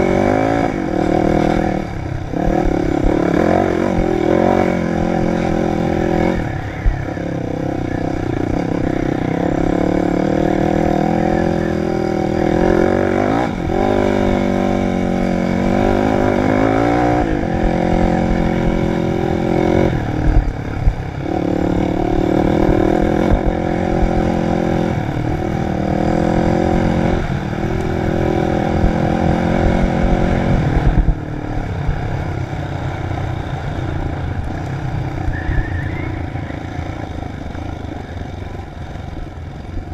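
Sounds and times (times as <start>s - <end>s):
dirt bike engine revving: 0.0s - 39.8s.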